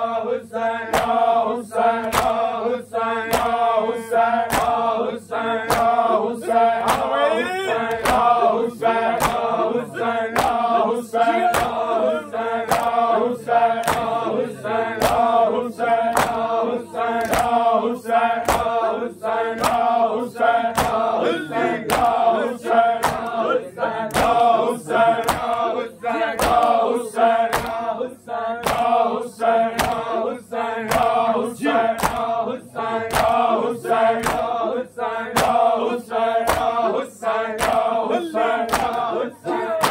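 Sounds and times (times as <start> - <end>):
men chanting together: 0.0 - 39.9.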